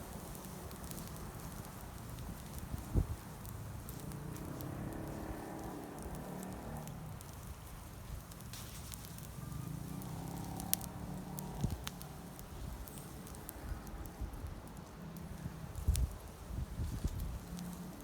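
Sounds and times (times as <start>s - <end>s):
burning wood popping: 0.0s - 18.0s
campfire crackling: 0.0s - 18.0s.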